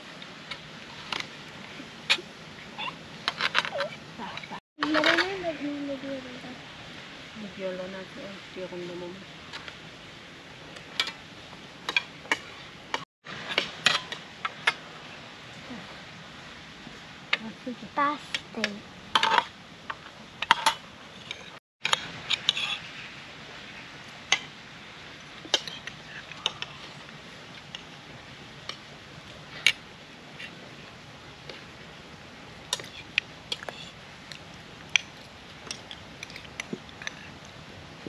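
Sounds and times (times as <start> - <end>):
steady background hiss: 0.0 - 38.0.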